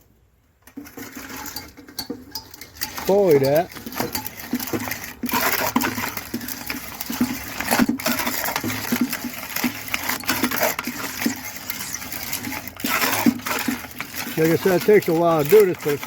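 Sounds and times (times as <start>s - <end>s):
small metallic clicks and rattles: 0.6s - 16.0s
food mill blade scraping: 0.7s - 16.0s.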